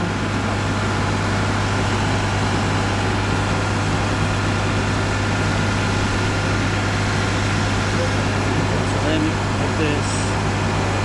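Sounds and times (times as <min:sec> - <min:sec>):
truck engine idling: 0:00.0 - 0:10.7.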